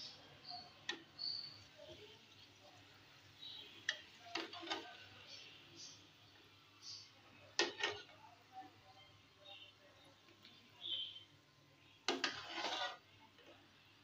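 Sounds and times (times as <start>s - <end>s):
oil sizzling and crackling: 0.0s - 8.2s, 10.2s - 14.0s.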